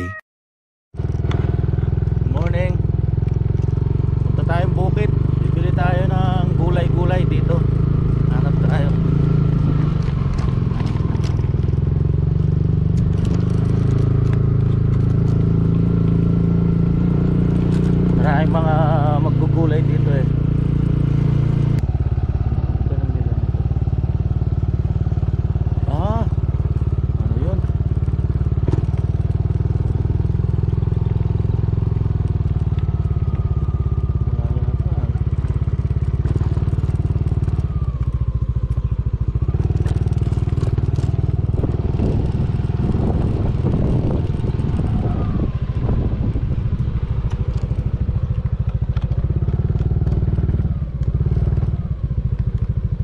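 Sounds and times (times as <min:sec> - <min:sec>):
motorcycle engine running: 0:00.9 - 0:53.0.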